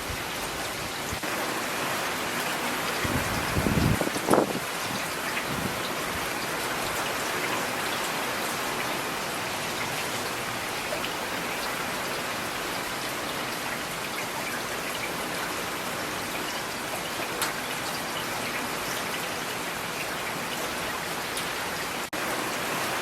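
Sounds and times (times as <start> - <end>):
rain on hard surfaces: 0.0 - 23.0.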